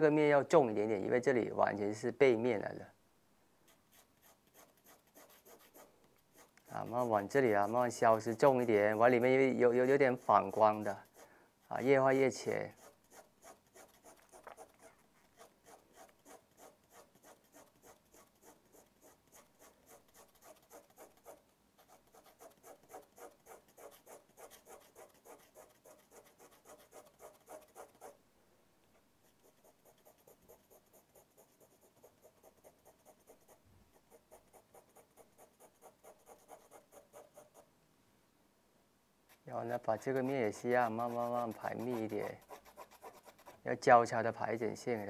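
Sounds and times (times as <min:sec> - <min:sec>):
pencil hatching on paper: 0:03.7 - 0:11.2, 0:11.8 - 0:28.2, 0:29.2 - 0:37.7, 0:39.3 - 0:43.6.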